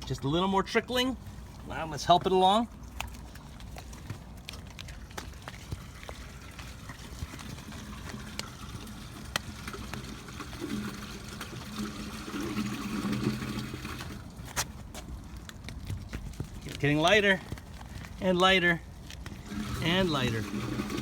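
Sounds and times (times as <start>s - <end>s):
water trickling down sewer hose: 0.0s - 21.0s.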